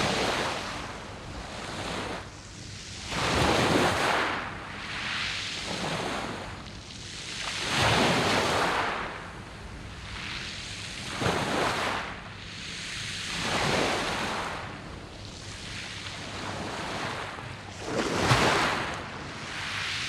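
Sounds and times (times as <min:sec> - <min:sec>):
waves washing over pebbles: 0:02.9 - 0:12.2, 0:12.8 - 0:20.0.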